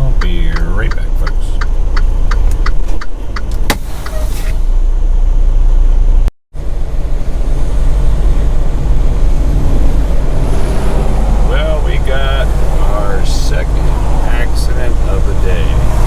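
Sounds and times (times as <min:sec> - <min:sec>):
road noise: 0:00.0 - 0:16.0
truck engine running: 0:00.0 - 0:16.0.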